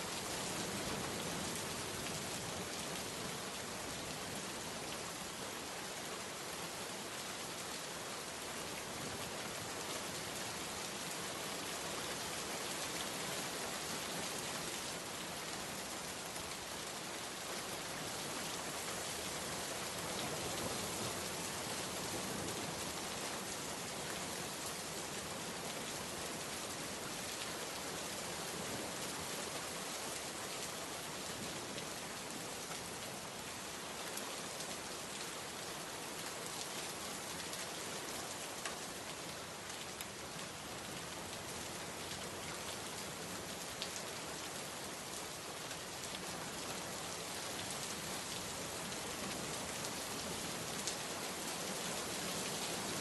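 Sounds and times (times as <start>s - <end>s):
heavy rain falling: 7.9s - 53.0s.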